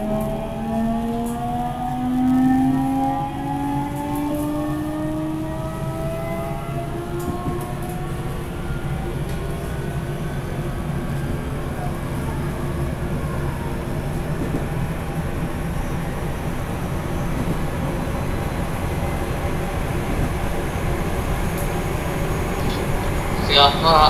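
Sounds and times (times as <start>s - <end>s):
train wheels rumbling: 0.0s - 24.0s.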